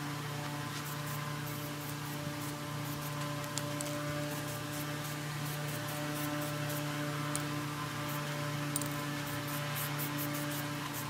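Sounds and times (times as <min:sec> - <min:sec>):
low electrical hum: 0:00.0 - 0:11.0
spray paint can hissing: 0:00.7 - 0:11.0.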